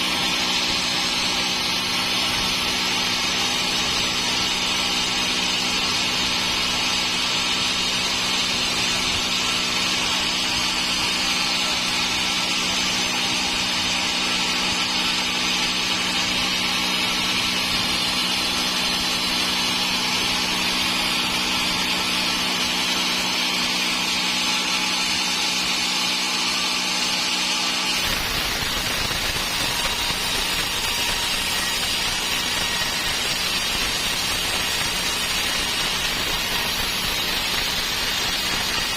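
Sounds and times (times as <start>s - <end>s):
saw hissing through wood: 0.0s - 38.9s
sawmill machine hum: 0.0s - 38.9s.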